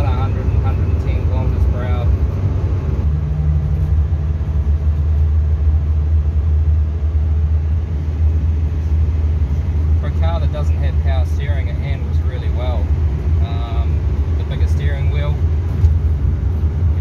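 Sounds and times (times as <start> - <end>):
car engine cruising: 0.0 - 17.0
road noise: 0.0 - 17.0.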